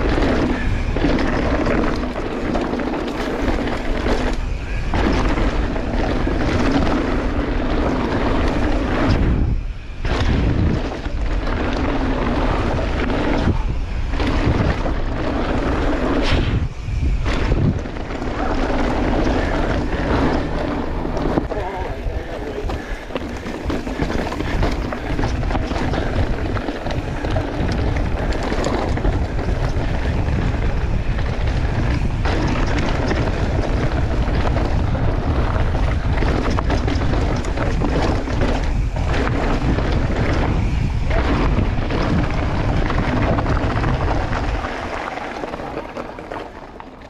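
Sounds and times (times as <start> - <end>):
bike knocks and rattles: 0.0 - 47.0
bike tyre noise on dirt: 0.0 - 47.0
wind buffeting microphone: 0.0 - 47.0.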